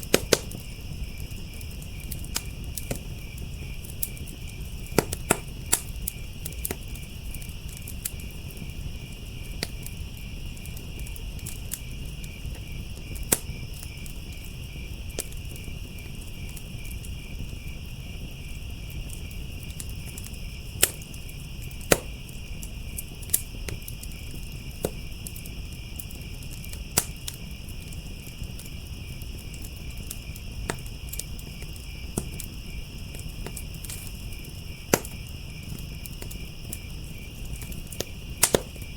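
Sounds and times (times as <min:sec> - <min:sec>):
crickets chirping: 0:00.0 - 0:38.9
firepit crackling and popping: 0:00.0 - 0:38.9.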